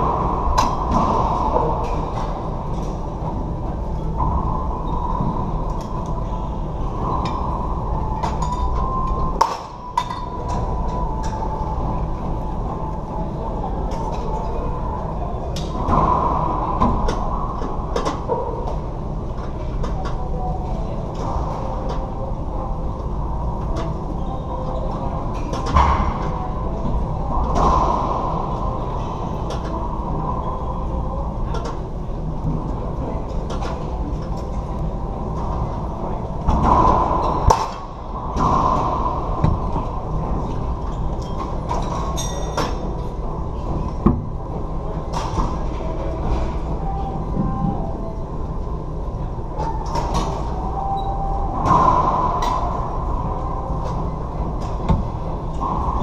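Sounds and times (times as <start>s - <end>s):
low rumble: 0.0s - 42.2s, 50.4s - 56.0s.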